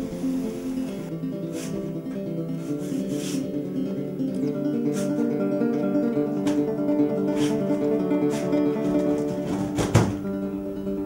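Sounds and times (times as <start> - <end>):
flamenco acoustic guitar: 0.0 - 11.0.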